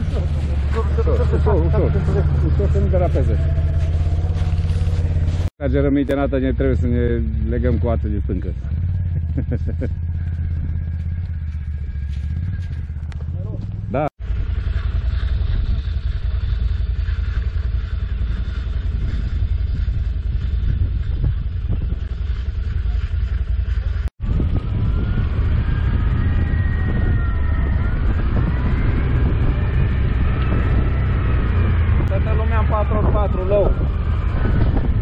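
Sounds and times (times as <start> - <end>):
quad bike engines: 0.0 - 35.0.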